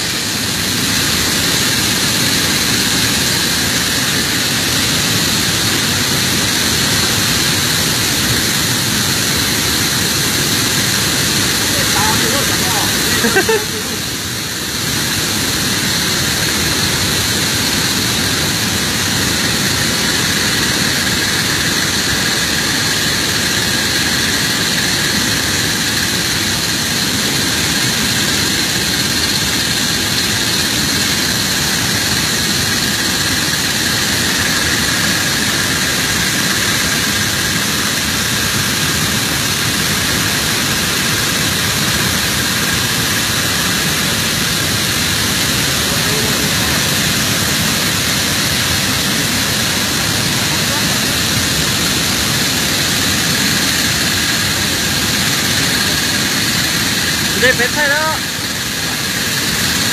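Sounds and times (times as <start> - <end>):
boat motor droning: 0.0 - 59.9
thin high whine: 0.0 - 59.9
waterfall roaring: 0.0 - 59.9.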